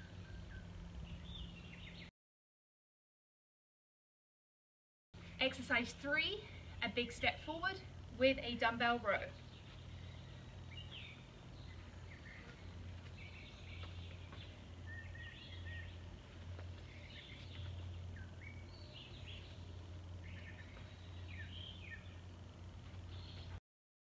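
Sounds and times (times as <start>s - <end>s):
songbirds chirping: 0.0s - 2.1s, 5.2s - 23.6s
steady low hum: 0.0s - 2.1s, 5.2s - 23.6s.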